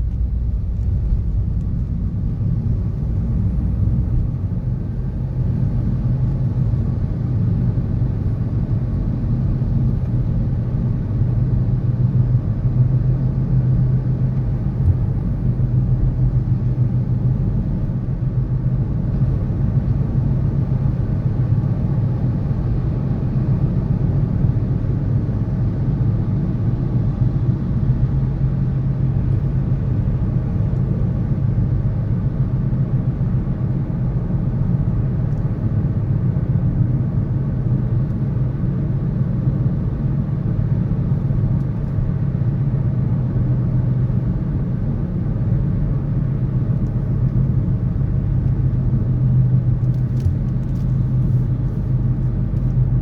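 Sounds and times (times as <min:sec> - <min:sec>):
low rumble of passing vehicles: 0:00.0 - 0:53.0.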